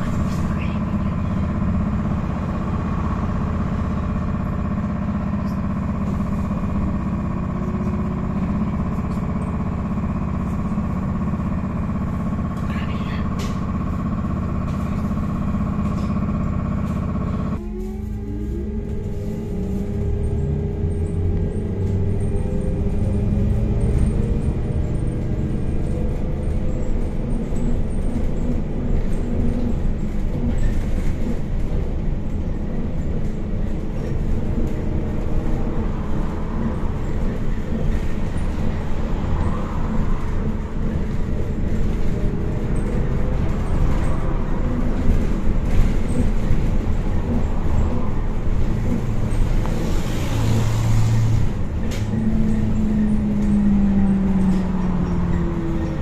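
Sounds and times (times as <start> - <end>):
road rumble: 0.0 - 56.0.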